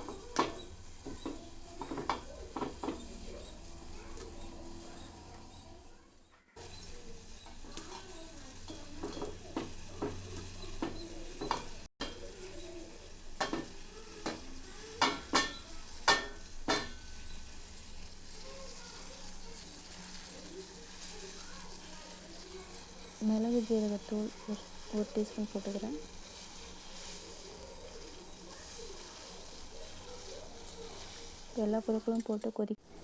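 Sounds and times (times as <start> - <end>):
utensil clinking and tapping pot: 0.0 - 5.7, 6.6 - 32.6.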